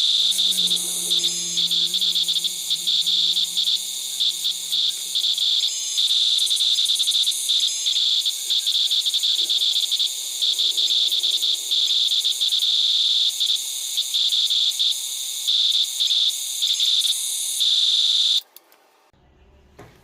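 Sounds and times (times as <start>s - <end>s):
toy electric motors whining: 0.0s - 18.6s.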